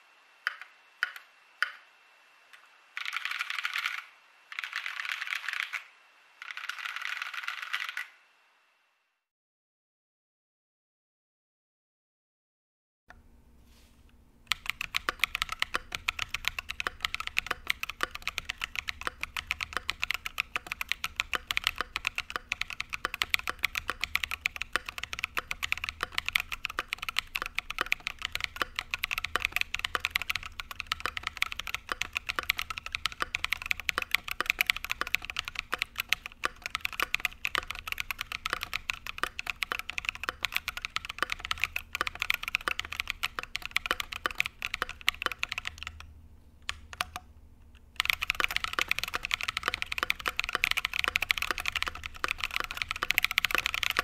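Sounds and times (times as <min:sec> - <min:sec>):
fast mechanical keyboard typing: 0:03.0 - 0:08.2, 0:14.5 - 0:47.3, 0:47.9 - 0:54.0.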